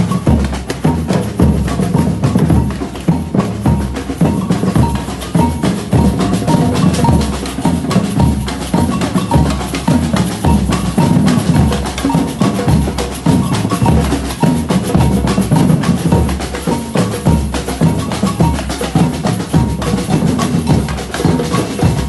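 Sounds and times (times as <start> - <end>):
deep bass drums: 0.0 - 22.0
snare drums: 0.0 - 22.0.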